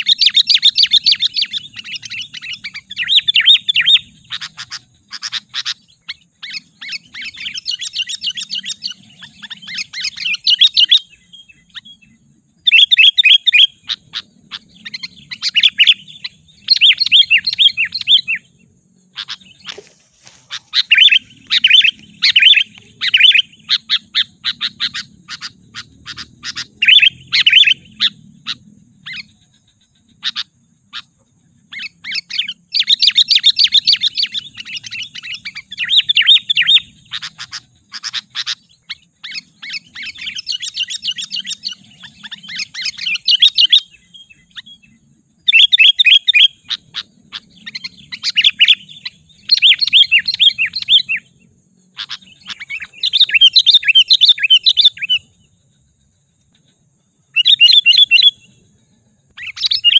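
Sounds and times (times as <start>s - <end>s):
bird chattering calls: 0.0s - 12.0s, 12.6s - 55.4s, 57.3s - 58.6s, 59.4s - 59.9s.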